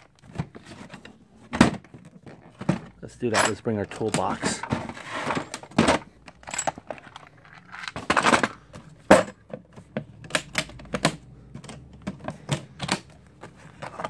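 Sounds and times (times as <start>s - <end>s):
tools rattling in toolbox: 0.3s - 14.0s.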